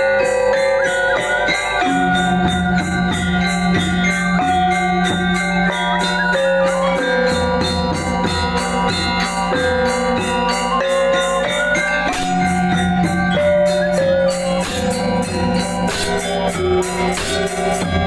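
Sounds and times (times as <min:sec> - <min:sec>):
clashing cymbal strokes: 0:00.0 - 0:18.0
metallophones ringing melody: 0:00.0 - 0:18.0.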